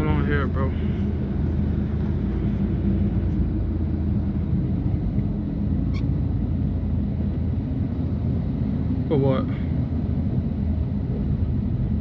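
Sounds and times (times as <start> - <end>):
car engine and exhaust drone: 0.0 - 12.0.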